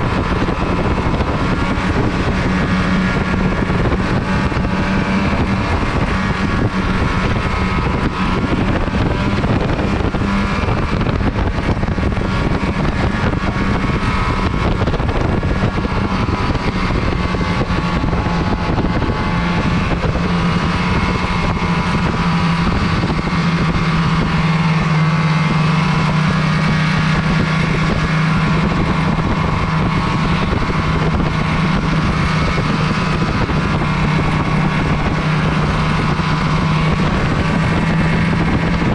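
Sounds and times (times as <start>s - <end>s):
snowmobile engine running: 0.0s - 38.9s
track and wind noise: 0.0s - 38.9s.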